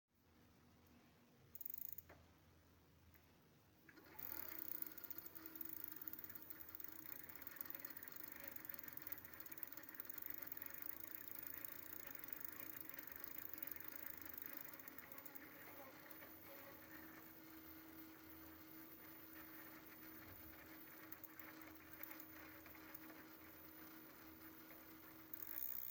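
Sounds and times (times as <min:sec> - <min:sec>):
electric hub motor whining: 0:04.0 - 0:25.9.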